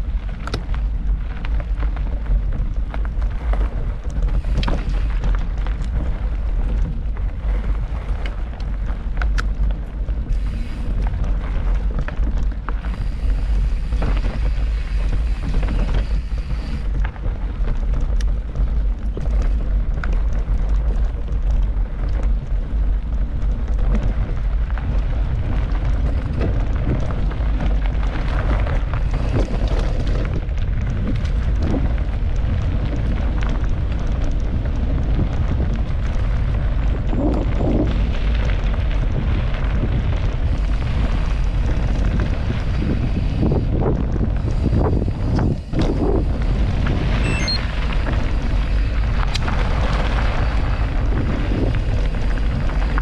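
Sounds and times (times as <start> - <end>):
bike rattling over rough ground: 0.0 - 53.0
wind buffeting microphone: 0.0 - 53.0.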